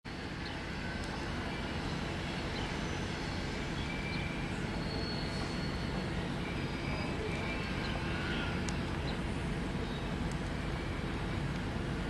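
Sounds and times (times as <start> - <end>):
engine hum: 0.1 - 12.0
train rumbling past: 0.1 - 12.0.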